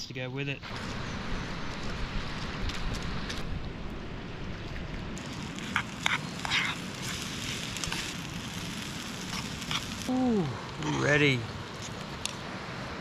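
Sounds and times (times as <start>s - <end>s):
fire crackles: 0.5s - 13.0s
campfire burning: 0.6s - 13.0s.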